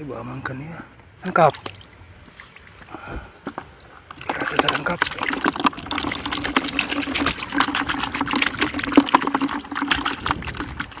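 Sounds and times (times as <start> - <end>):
water splashing and sloshing: 1.4 - 11.0.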